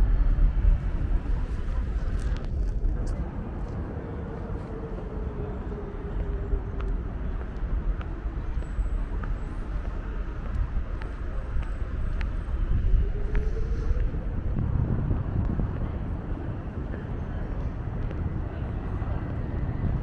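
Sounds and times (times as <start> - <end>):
low rumble of road vehicles: 0.0 - 20.0.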